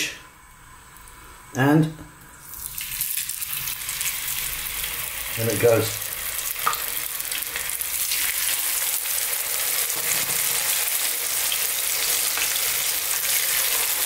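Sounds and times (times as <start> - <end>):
fish sizzling in hot oil: 2.4 - 14.0.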